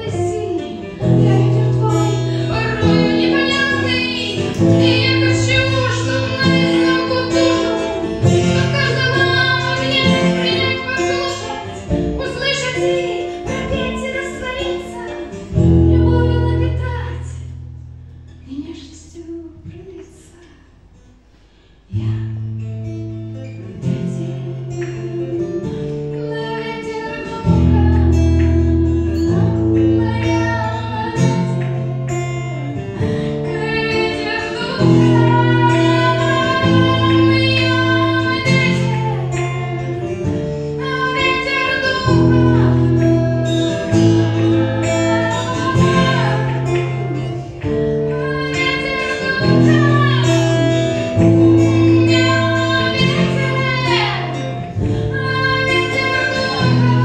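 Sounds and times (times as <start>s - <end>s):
woman singing: 0.0s - 17.5s, 18.4s - 20.8s, 23.3s - 57.0s
acoustic guitar chords: 0.0s - 20.0s, 20.9s - 57.0s.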